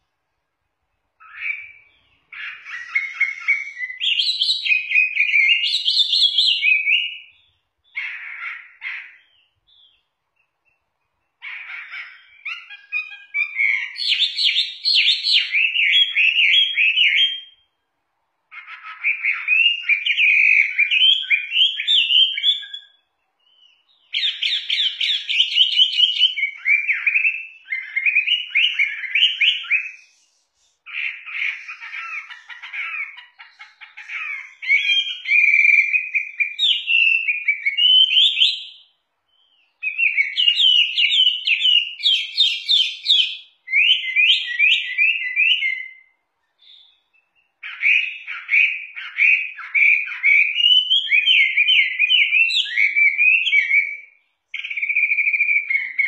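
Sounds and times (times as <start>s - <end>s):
bird singing whistled trills: 1.2s - 8.2s, 11.5s - 17.8s, 18.6s - 56.0s.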